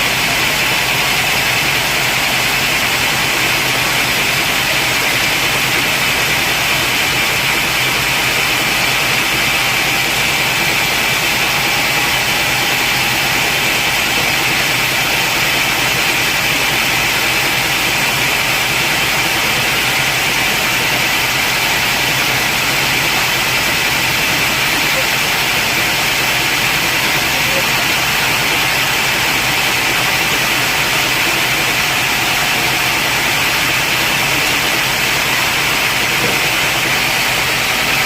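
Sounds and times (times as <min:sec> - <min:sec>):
sawmill saw machinery running: 0:00.0 - 0:38.0.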